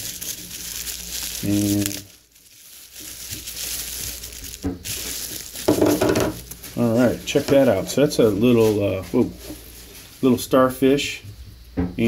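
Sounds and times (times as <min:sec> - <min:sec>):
packaging crinkling: 0:00.0 - 0:10.4.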